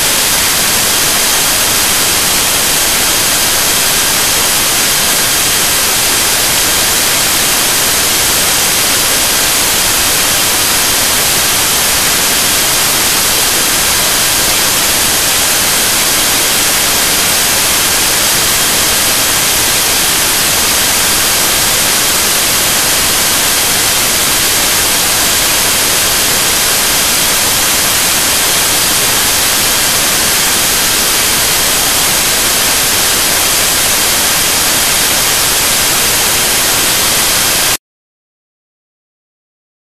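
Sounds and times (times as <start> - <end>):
static hiss: 0.0 - 37.8.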